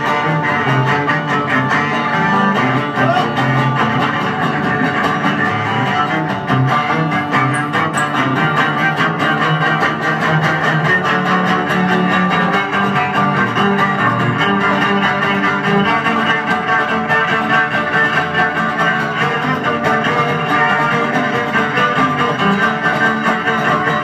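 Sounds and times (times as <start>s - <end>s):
acoustic guitar playing: 0.0s - 24.0s
bowed double bass: 0.0s - 24.0s.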